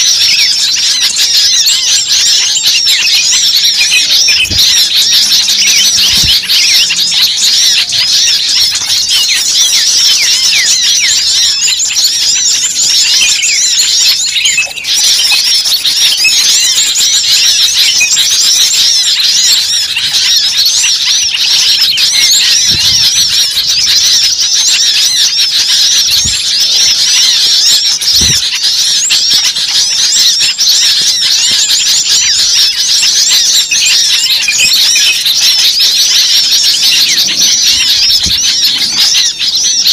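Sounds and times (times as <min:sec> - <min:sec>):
chorus of small songbirds chirping: 0:00.0 - 0:39.9.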